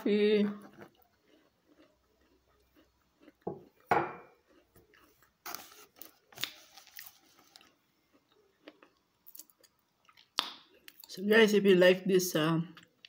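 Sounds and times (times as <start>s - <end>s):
cookie being chewed with crunching: 0.0s - 11.2s, 12.7s - 13.0s.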